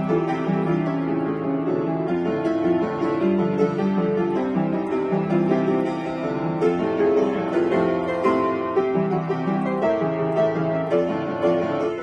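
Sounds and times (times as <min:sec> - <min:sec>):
solo piano melody: 0:00.0 - 0:12.0.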